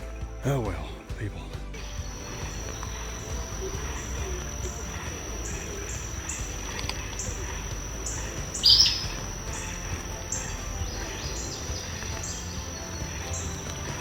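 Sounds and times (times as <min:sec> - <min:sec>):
outdoor background noise: 0:00.0 - 0:14.0
bird call: 0:01.8 - 0:14.0
high-pitched insect drone: 0:01.8 - 0:14.0.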